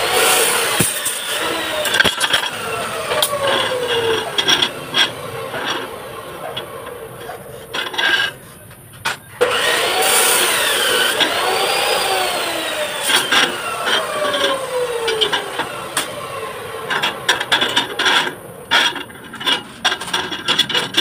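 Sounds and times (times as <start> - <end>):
machine whine: 0.0 - 20.8
steel rebar clinking and knocking: 0.1 - 9.6, 10.3 - 16.2, 16.9 - 21.0.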